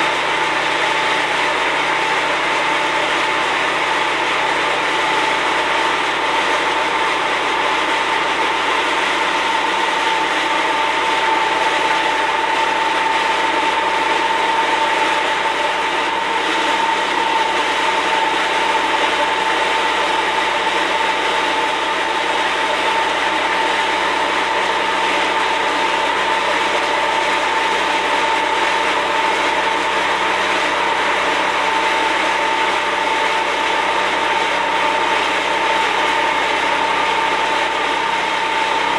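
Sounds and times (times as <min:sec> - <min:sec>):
constant whine: 0:00.0 - 0:38.9.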